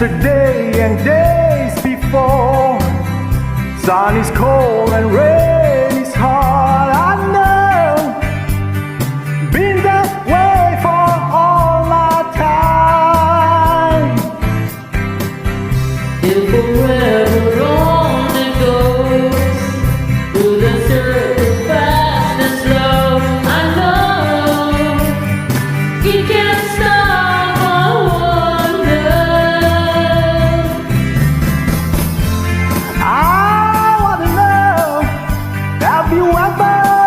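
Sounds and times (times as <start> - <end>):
rock song with singing: 0.0 - 37.0.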